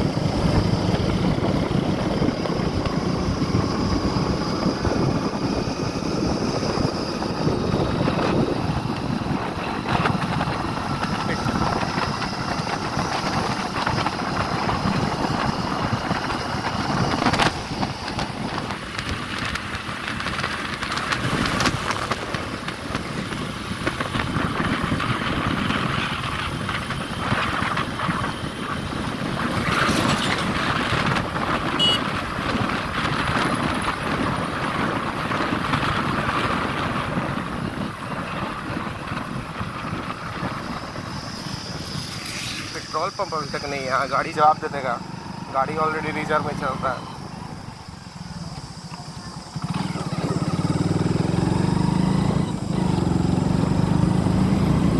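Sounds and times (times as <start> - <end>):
motorcycle engine running: 0.0 - 54.9
road noise: 0.0 - 54.9
wind: 0.0 - 54.9.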